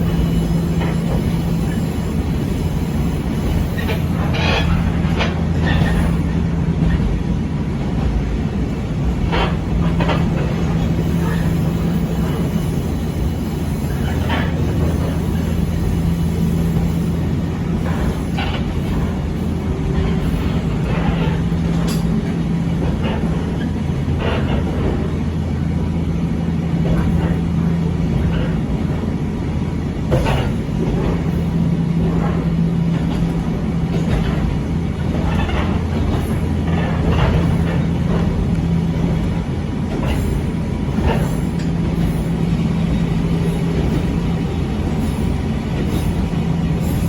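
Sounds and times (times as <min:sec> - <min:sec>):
wheels clacking over rail joints: 0:00.0 - 0:25.8, 0:26.4 - 0:47.0
railcar rumbling and humming: 0:00.0 - 0:47.0.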